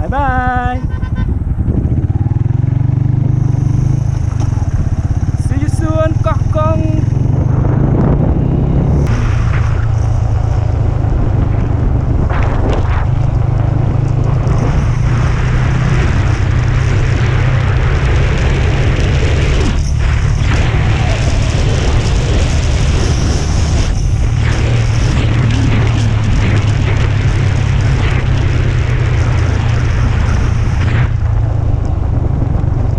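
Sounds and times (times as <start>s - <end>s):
motorcycle running at speed: 0.0s - 32.9s
wind rumble on microphone: 0.0s - 32.9s.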